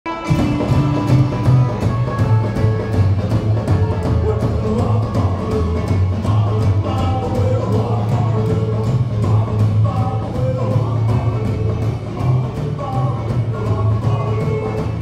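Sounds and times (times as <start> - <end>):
drum kit beat: 0.1 - 15.0
electric and acoustic guitars: 0.1 - 15.0
live rock and roll band: 0.1 - 15.0
upright double bass: 0.2 - 15.0.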